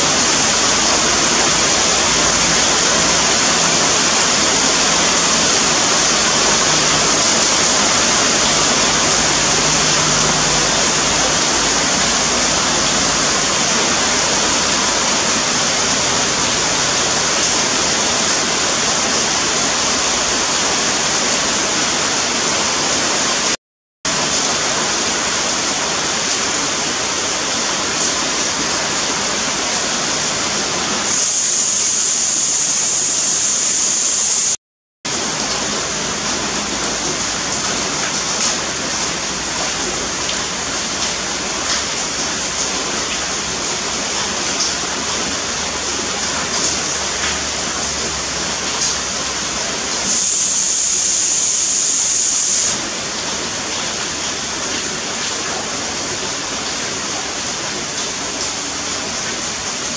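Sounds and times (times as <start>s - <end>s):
rain falling on leafy trees: 0.0s - 23.5s, 24.1s - 34.5s, 35.1s - 59.9s.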